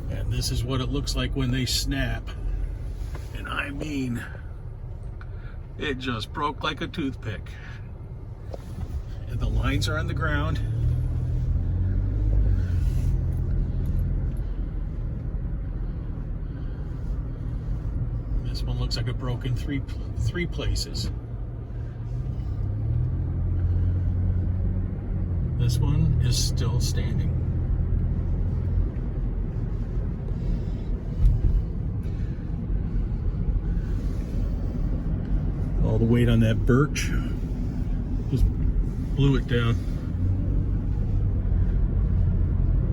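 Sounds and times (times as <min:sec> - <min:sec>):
car engine and road rumble: 0:00.0 - 0:42.9.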